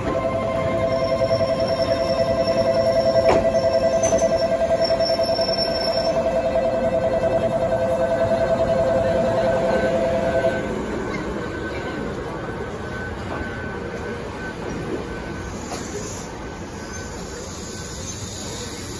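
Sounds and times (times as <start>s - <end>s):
two-note electronic warning tone: 0.0s - 15.8s
electric train rumbling: 0.0s - 18.9s.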